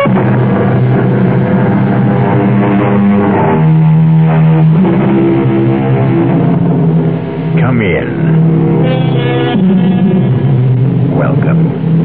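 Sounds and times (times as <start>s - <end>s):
low held musical chords: 0.0s - 12.0s.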